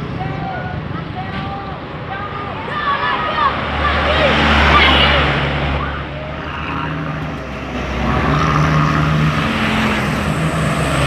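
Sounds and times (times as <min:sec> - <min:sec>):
heavy vehicle engine passing: 0:00.0 - 0:11.0.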